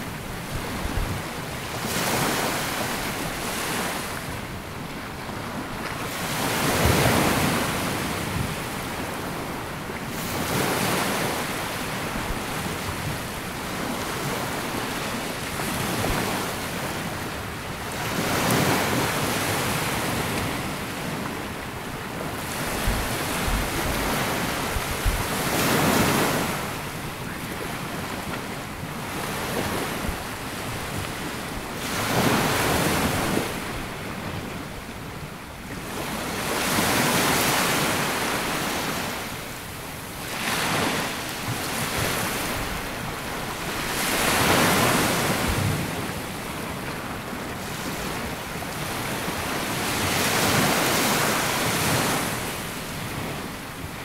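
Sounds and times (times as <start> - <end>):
sea waves washing up beach: 0.0 - 54.0.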